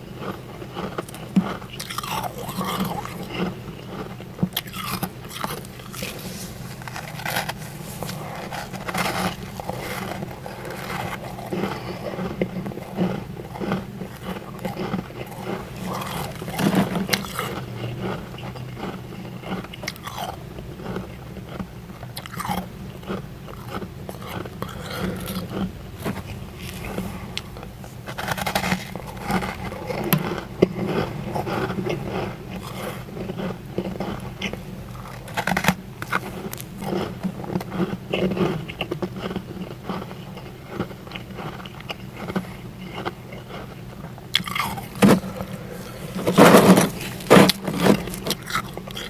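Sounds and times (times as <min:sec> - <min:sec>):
chewing crunchy frost: 0:00.0 - 0:49.0.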